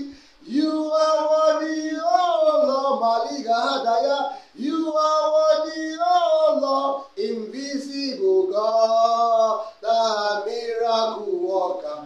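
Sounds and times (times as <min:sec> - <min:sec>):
man singing praise song: 0:00.0 - 0:12.0.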